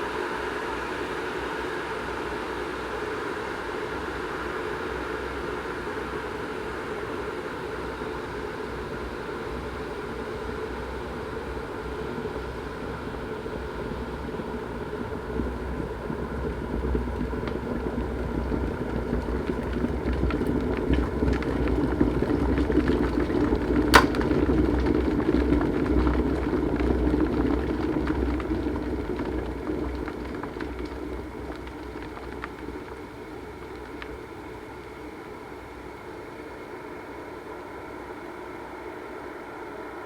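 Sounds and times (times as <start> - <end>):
kettle boiling water: 0.0 - 40.0.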